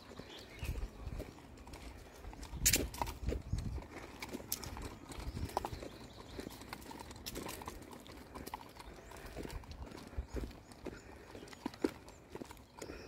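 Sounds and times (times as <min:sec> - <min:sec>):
footsteps on paved path: 0:00.0 - 0:13.0.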